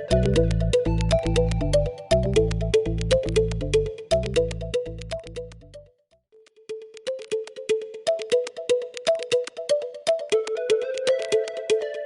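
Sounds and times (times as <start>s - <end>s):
upbeat electronic music: 0.0s - 5.8s, 6.8s - 12.0s.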